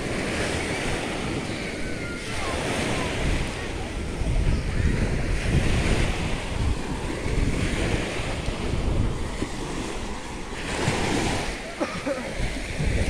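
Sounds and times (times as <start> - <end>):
surf on sandy beach: 0.0 - 13.0
wind buffeting microphone: 0.0 - 13.0.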